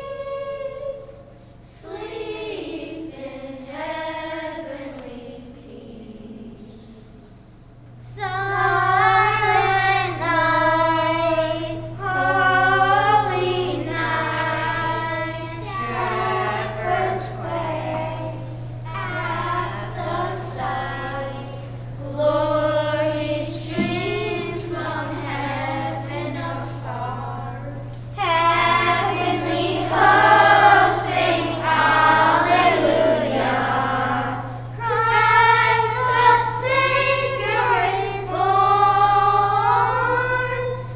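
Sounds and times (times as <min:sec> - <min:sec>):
children's choir singing: 0:00.0 - 0:07.4, 0:08.0 - 0:40.9
steady low hum: 0:00.0 - 0:40.9.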